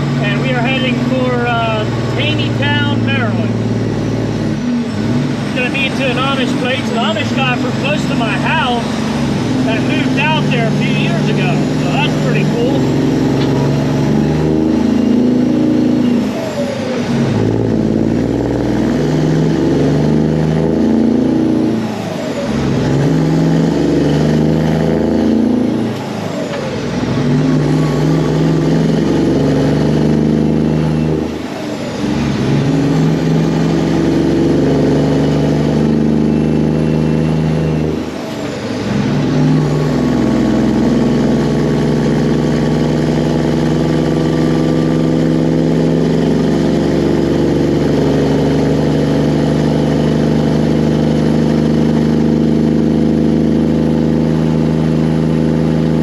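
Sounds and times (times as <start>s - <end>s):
truck diesel engine pulling: 0.0s - 56.0s.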